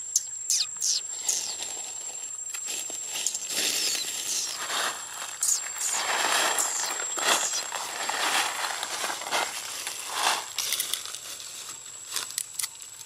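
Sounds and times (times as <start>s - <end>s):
dry leaves rustling and crunching: 1.2s - 13.0s.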